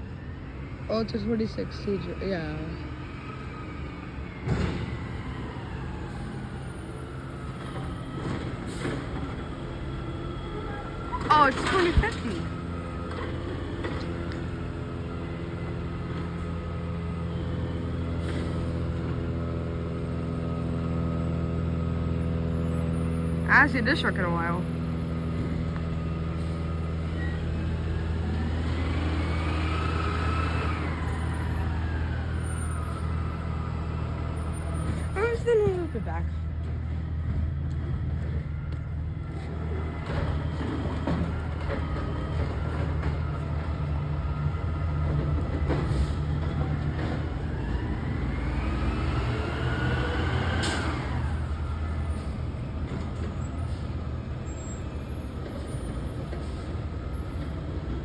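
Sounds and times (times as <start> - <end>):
garbage truck engine rumbling: 0.0 - 58.0.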